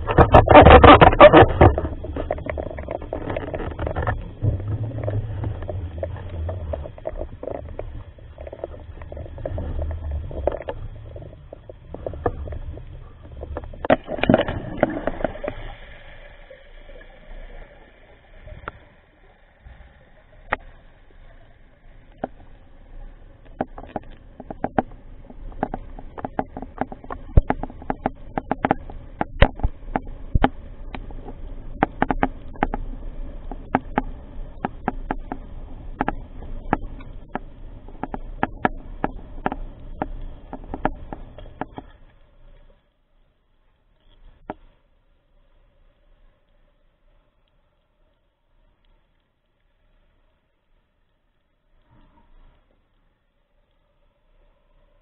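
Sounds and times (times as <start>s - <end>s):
underwater clicks and crackles: 0.0s - 55.0s
underwater rumble of water: 0.0s - 55.0s.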